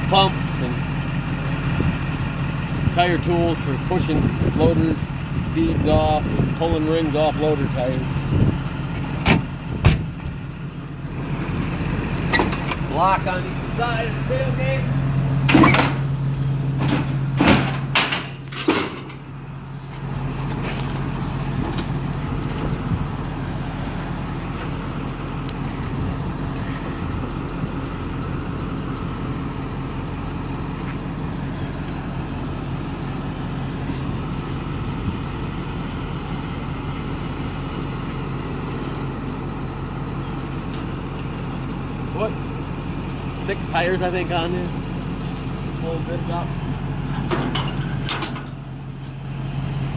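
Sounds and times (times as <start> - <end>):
truck running: 0.0 - 49.9.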